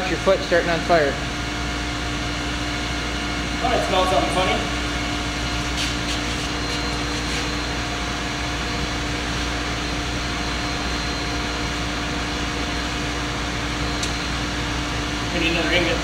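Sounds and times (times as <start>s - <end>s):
foundry machinery drone: 0.0s - 16.0s
held hum tones: 0.0s - 16.0s.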